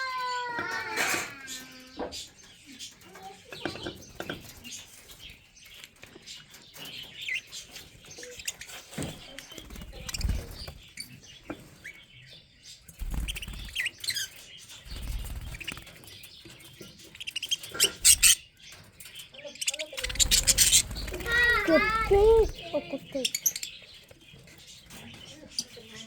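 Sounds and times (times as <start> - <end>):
budgerigars chirping: 2.0 - 26.0.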